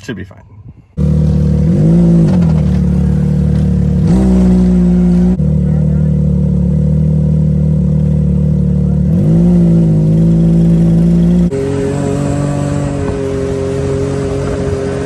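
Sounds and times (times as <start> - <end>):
pit bike engine running: 1.0 - 15.0.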